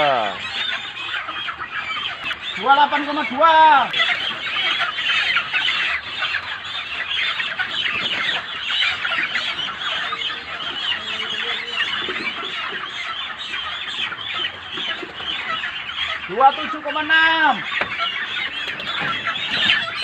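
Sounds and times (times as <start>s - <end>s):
chickens squawking and clucking: 0.0s - 20.0s.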